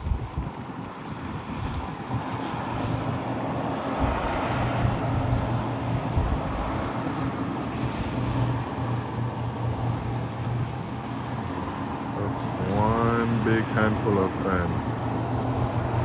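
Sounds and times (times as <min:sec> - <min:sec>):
wind buffeting microphone: 0:00.0 - 0:16.0
engine droning low hum: 0:02.6 - 0:16.0.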